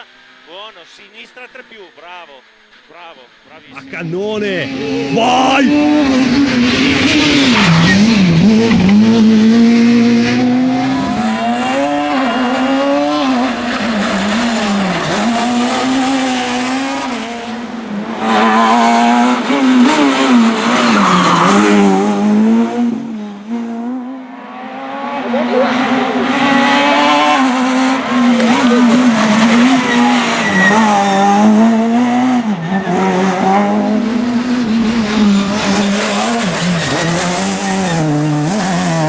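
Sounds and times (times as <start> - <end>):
rally car engine revving: 3.6 - 39.0.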